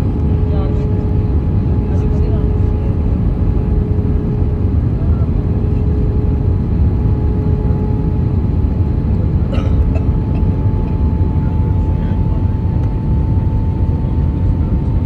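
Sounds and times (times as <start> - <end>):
airliner engines roaring: 0.0 - 15.0.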